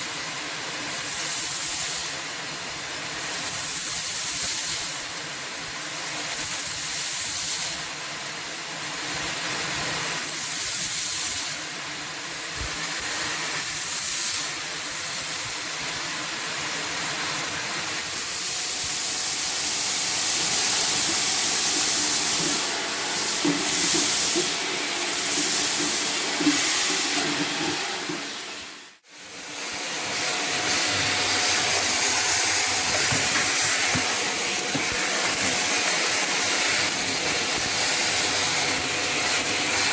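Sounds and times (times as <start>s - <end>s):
vacuum cleaner running: 5.6s - 39.9s.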